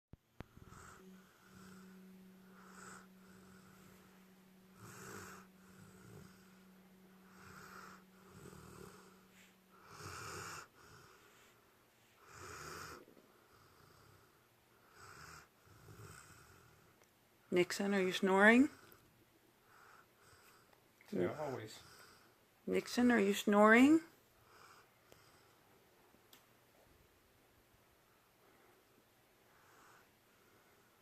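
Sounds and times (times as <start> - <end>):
faint steady hum: 0.2 - 31.0
soft snoring: 0.3 - 17.0, 18.3 - 22.4, 23.6 - 25.8, 28.4 - 31.0.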